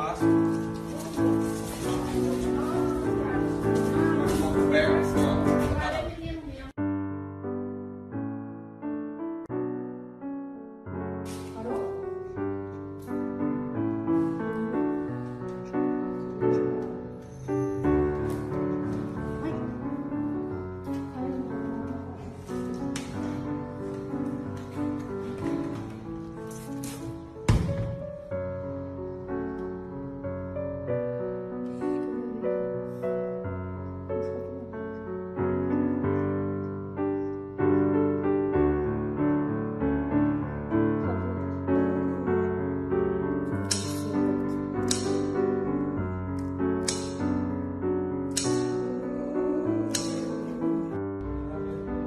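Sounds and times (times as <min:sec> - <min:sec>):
gentle piano melody: 0:00.0 - 0:52.0.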